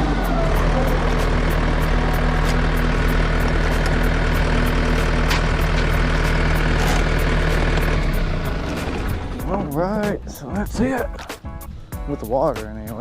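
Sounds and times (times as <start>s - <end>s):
engine idling: 0.0s - 12.8s.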